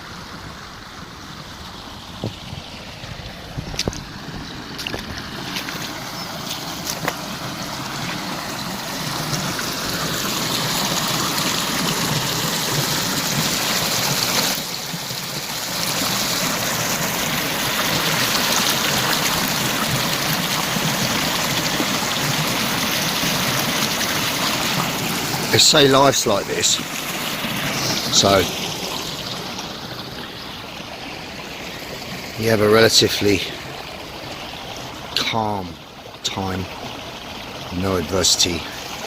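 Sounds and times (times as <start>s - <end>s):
waterfall rushing: 0.0s - 36.8s, 37.6s - 39.0s.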